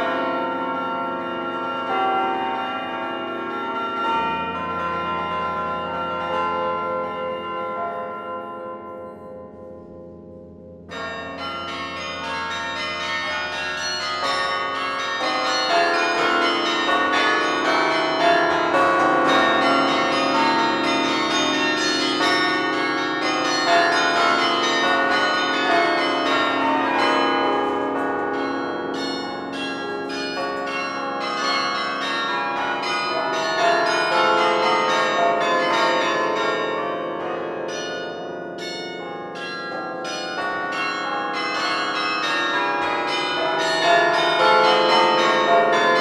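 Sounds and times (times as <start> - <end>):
carillon bells ringing: 0.0 - 10.0, 10.9 - 46.0.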